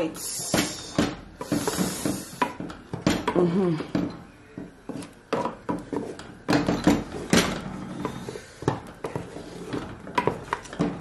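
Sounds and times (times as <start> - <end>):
wooden spoon stirring soup: 1.4 - 11.0.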